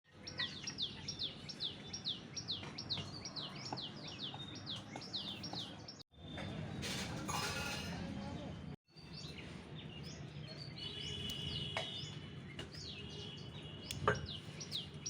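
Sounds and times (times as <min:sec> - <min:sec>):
bird chirping: 0:00.1 - 0:06.4, 0:08.9 - 0:15.0.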